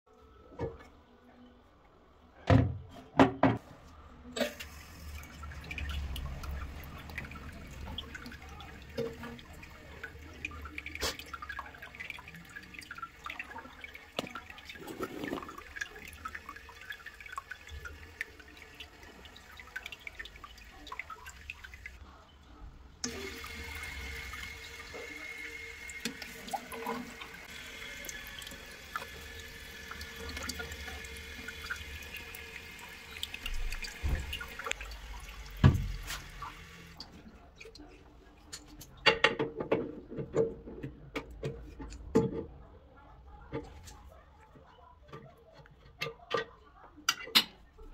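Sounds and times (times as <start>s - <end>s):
water trickling in toilet cistern: 4.2s - 42.6s, 43.4s - 47.9s.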